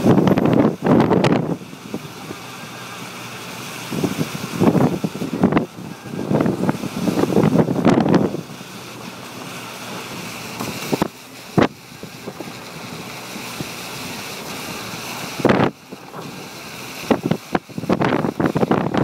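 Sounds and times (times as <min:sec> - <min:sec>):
wind buffeting microphone: 0:00.0 - 0:02.4, 0:03.7 - 0:08.7, 0:10.2 - 0:19.0
tyres hissing on wet pavement: 0:00.0 - 0:19.0.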